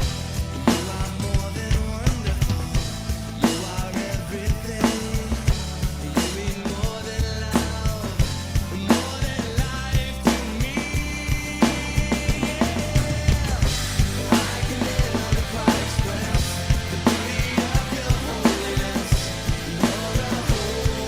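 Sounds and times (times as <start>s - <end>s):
bass line: 0.0s - 21.0s
drum kit playing a steady beat: 0.0s - 21.0s
pop-rock band track: 0.0s - 21.0s.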